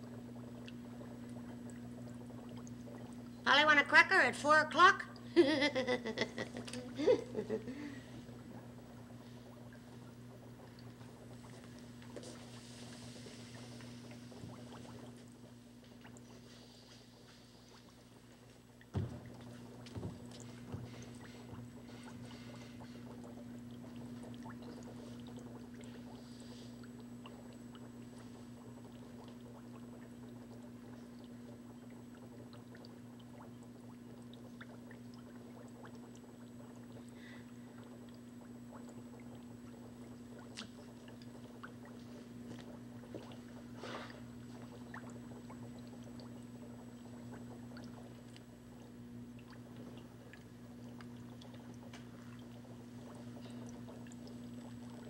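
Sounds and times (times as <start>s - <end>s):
water sloshing and splashing: 0.0s - 3.6s, 6.1s - 55.0s
steady low hum: 0.0s - 55.0s.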